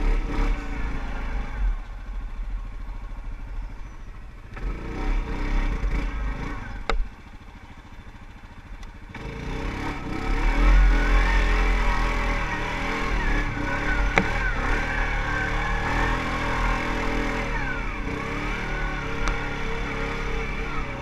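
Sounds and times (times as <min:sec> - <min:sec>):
atv engine running under load: 0:00.0 - 0:21.0.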